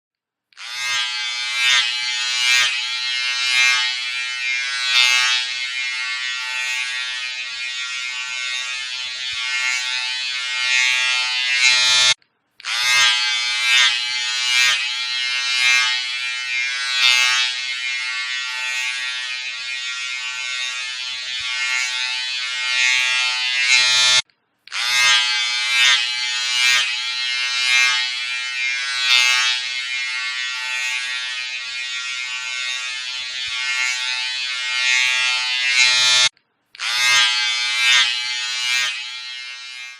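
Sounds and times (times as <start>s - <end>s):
electric hair clipper buzzing: 0.6s - 39.9s.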